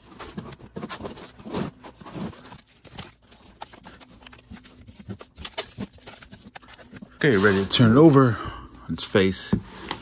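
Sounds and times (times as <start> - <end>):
masking tape rustling: 0.0 - 8.2.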